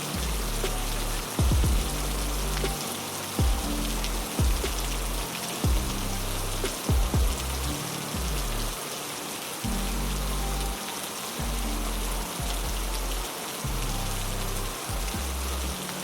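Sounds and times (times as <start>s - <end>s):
heavy rain: 0.0s - 16.0s
low sustained music notes: 0.0s - 16.0s.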